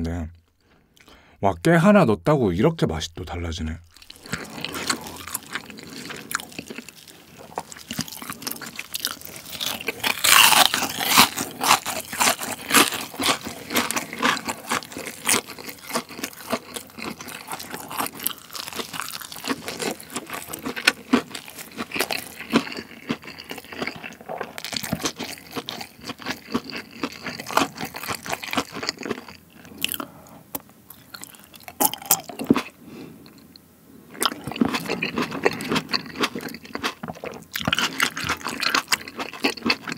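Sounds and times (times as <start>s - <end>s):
crunching and chewing fried food: 3.8s - 39.9s.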